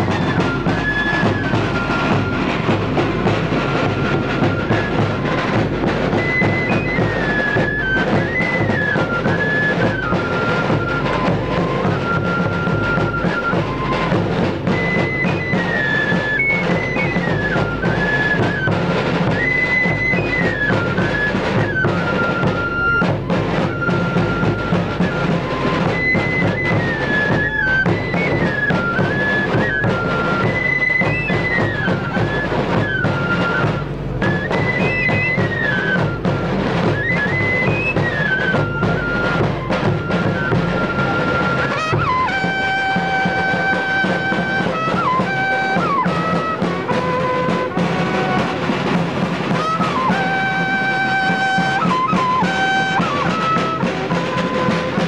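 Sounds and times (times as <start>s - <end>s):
flute melody: 0.0s - 55.0s
steady drum beat: 0.0s - 55.0s.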